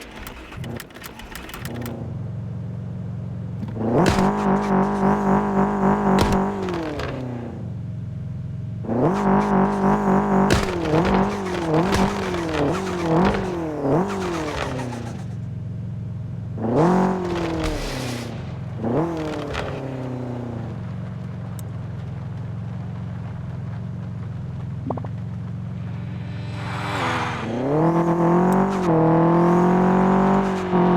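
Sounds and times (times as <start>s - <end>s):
engine idling and revving: 0.0s - 30.9s.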